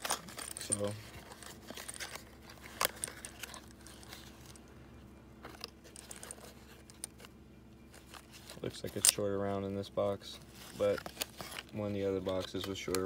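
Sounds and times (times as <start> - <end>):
cardboard rustling: 0.0 - 4.7, 5.4 - 9.3, 10.0 - 13.0.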